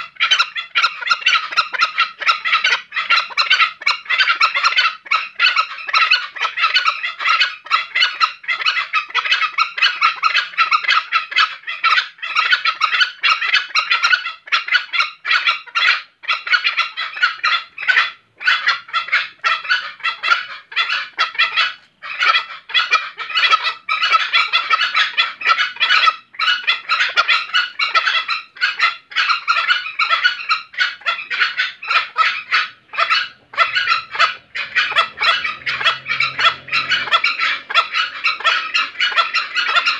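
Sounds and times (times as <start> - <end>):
junglefowl chattering call: 0.0 - 39.9.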